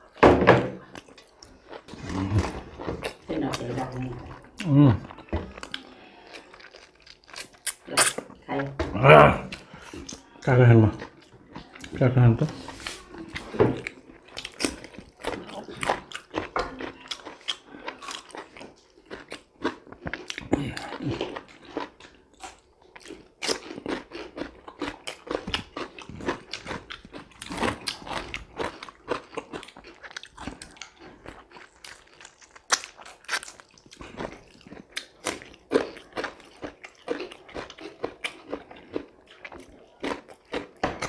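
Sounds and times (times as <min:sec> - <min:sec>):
people chewing crunchy cucumber: 0:00.0 - 0:41.0.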